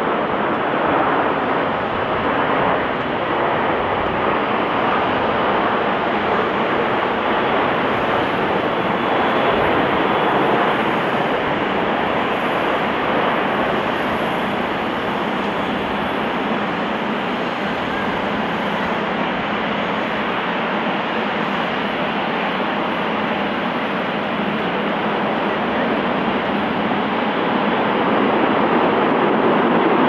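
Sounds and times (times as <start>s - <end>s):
airliner jet engine noise: 0.0s - 30.0s.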